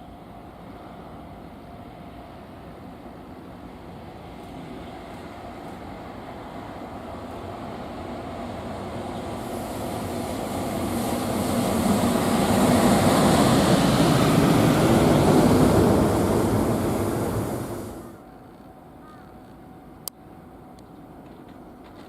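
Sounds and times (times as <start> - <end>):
freight train passing: 0.0 - 18.3.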